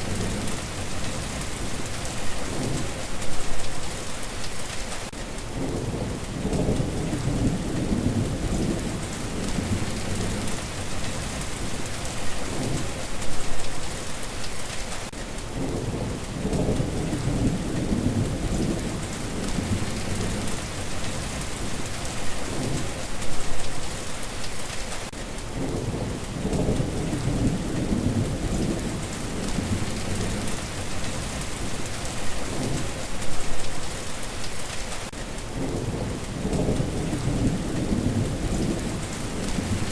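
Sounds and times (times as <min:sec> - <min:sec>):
thunder rumbling: 0:00.0 - 0:04.0, 0:05.5 - 0:14.1, 0:15.5 - 0:24.0, 0:25.5 - 0:34.1, 0:35.5 - 0:39.9
steady rain falling: 0:00.0 - 0:39.9.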